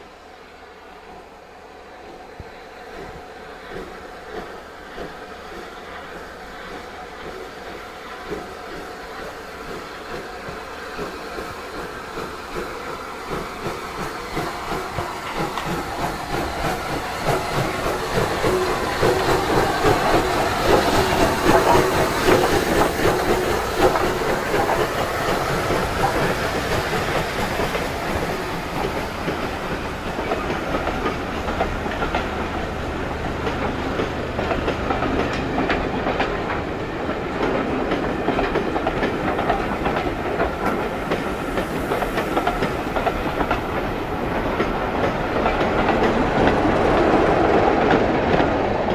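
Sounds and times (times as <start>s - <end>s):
steam locomotive passing: 0.0s - 48.9s
clickety-clack of train wheels: 2.0s - 48.9s.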